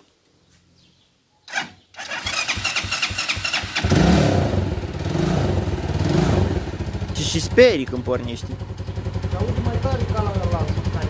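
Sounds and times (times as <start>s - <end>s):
quad bike engine starting: 1.5s - 11.0s.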